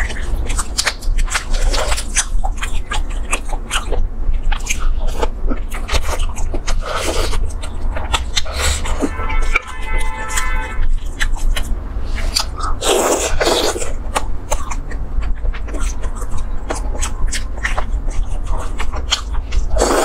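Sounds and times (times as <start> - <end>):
chewing and biting meat: 0.0 - 9.2, 9.8 - 20.0
steady low hum: 0.0 - 20.0.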